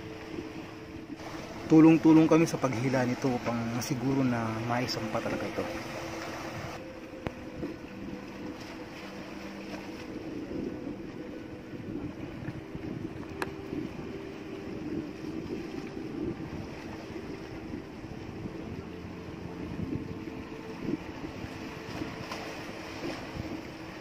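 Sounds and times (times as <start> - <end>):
motor boat humming: 0.0 - 24.0
water washing: 0.0 - 24.0
wind on microphone: 0.0 - 24.0.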